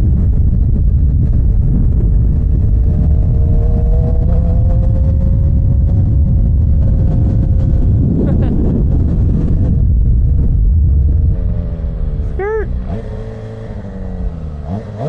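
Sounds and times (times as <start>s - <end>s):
motorcycle engine: 0.0s - 15.0s
wind rumble on microphone: 0.0s - 15.0s.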